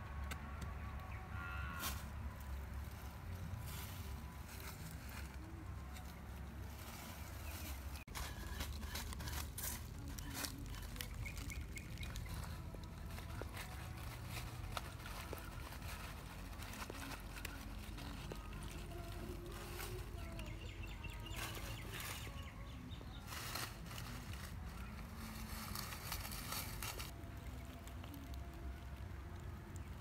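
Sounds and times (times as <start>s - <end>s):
dry leaves rustling and crackling: 0.9s - 30.0s.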